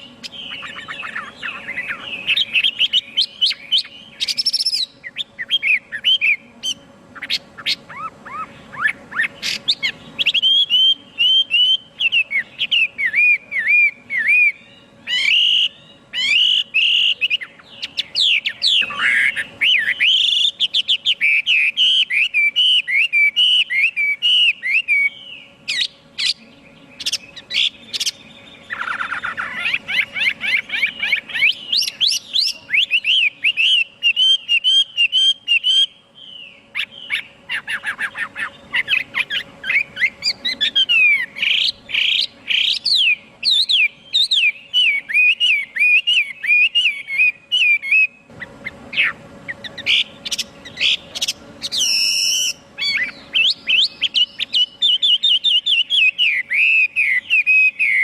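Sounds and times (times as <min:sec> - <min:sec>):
bird singing whistled phrases: 0:00.0 - 0:48.3, 0:48.9 - 0:58.0.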